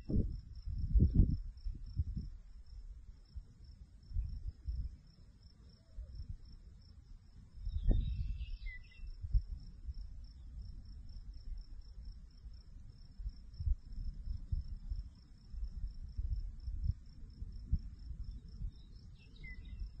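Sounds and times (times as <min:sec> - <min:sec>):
wind rumbling on microphone: 0:00.0 - 0:05.1, 0:05.8 - 0:20.0
crickets chirping: 0:00.0 - 0:20.0.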